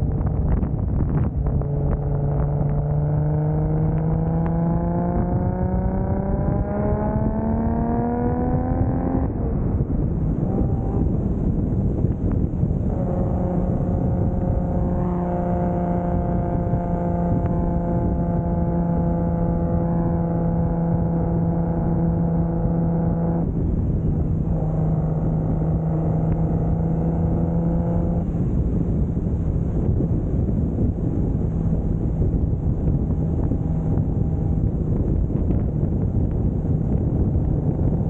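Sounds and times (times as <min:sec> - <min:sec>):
car engine cruising: 0:00.0 - 0:38.0
road and wind noise: 0:00.0 - 0:38.0.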